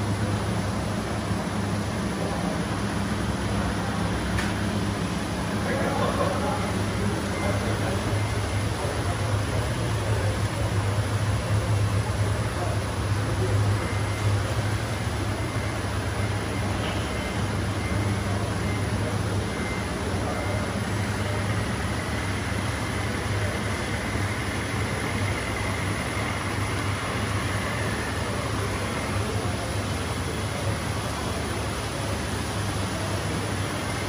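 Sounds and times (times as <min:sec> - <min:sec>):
faint high whine: 0:00.0 - 0:34.0
model truck engine drone: 0:00.0 - 0:34.0
noisy background: 0:00.0 - 0:34.0.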